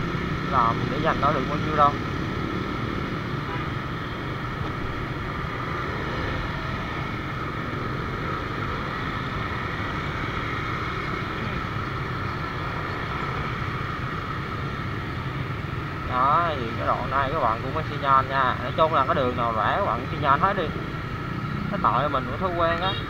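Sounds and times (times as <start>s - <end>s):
motorbike traffic hum: 0.0s - 23.0s.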